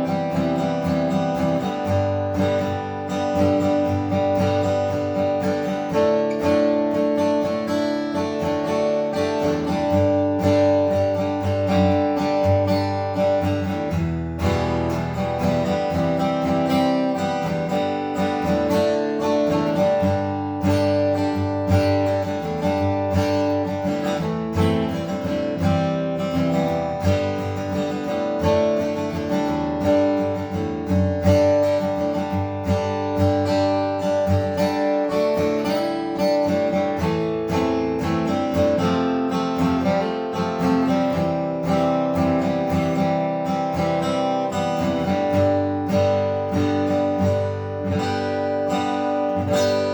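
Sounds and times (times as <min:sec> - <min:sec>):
acoustic guitar strumming chords: 0:00.0 - 0:49.9.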